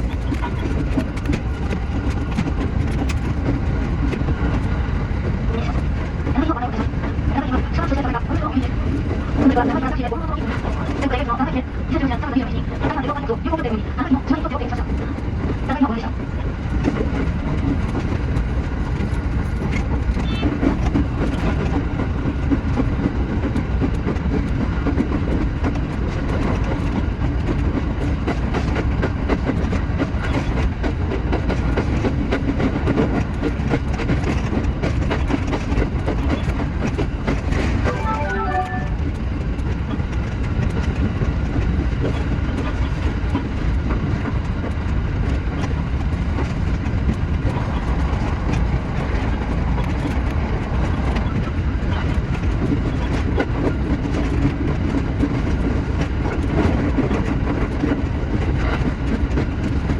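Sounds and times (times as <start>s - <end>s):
rapid patter of clicks: 0.0s - 11.6s, 16.5s - 38.7s, 39.6s - 59.9s
train wheels rumbling on rail: 0.0s - 59.9s.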